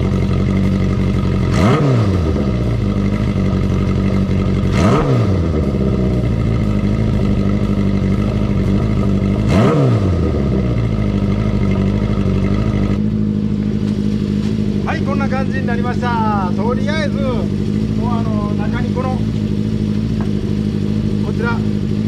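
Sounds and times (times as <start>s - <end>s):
engine revs blipped: 0.0s - 22.0s
motorcycle engine idling: 0.0s - 22.0s.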